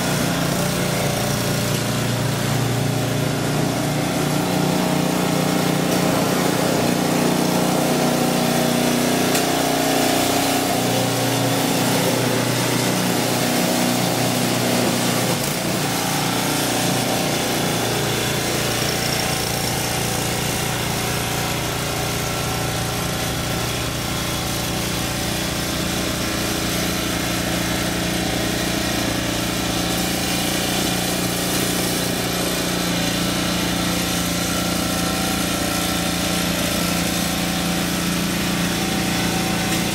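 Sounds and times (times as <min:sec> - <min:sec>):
snow blower engine running: 0:00.0 - 0:39.9.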